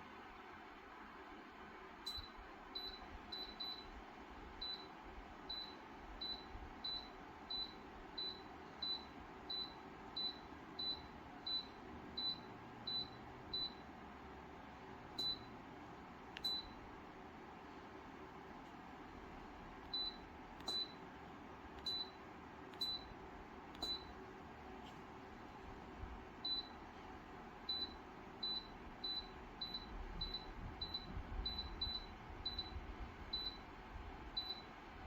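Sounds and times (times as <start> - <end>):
steady low hiss: 0.0 - 35.0.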